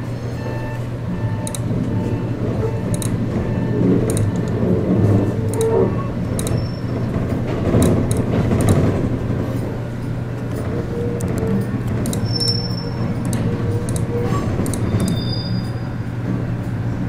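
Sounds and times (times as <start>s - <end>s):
train low hum: 0.0s - 17.0s
wheel and rail noise: 0.0s - 17.0s.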